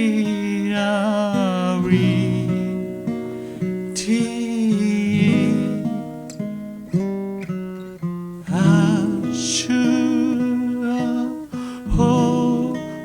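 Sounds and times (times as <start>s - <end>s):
acoustic guitar plucking notes: 0.0s - 13.0s.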